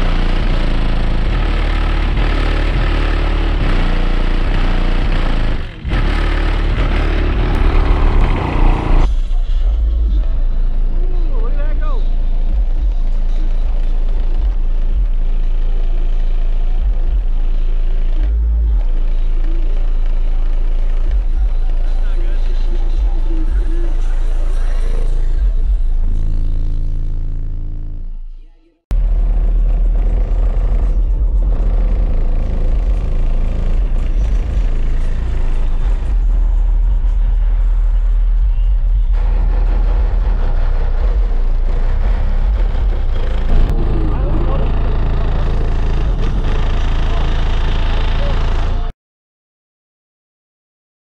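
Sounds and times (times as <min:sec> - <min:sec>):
loud pulsing subwoofer bass: 0:00.0 - 0:48.9.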